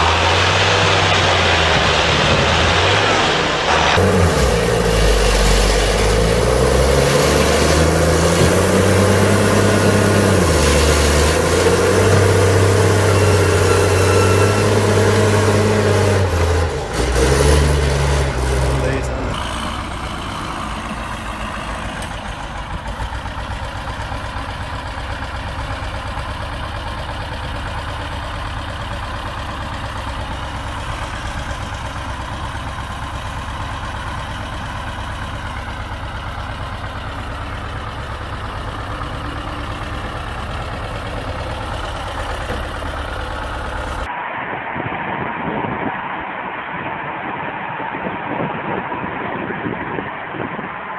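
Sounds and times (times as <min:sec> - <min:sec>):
heavy vehicle engine humming: 0:00.0 - 0:50.9.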